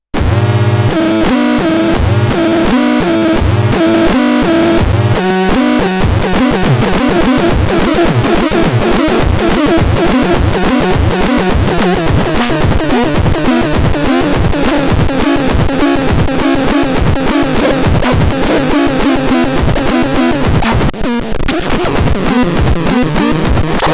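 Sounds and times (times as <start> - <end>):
synthesizer stepped note sequence: 0.1 - 23.9.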